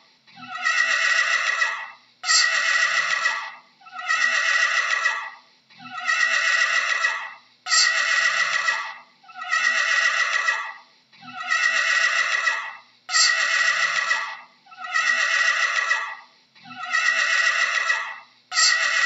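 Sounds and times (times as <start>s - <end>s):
horse whinnying: 0.4s - 19.0s.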